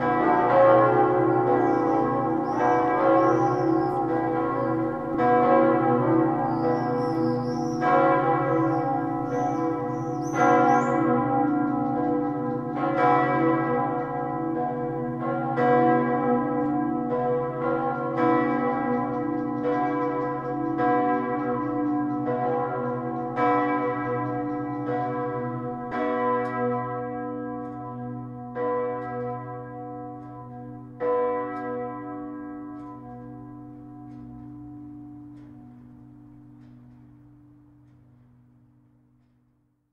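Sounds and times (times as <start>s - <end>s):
church bells ringing: 0.0s - 39.4s.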